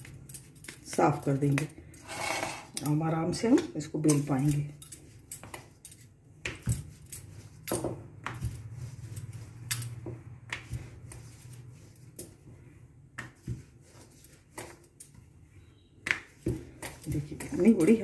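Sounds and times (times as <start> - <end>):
rolling pin rolling dough: 0.0 - 18.0.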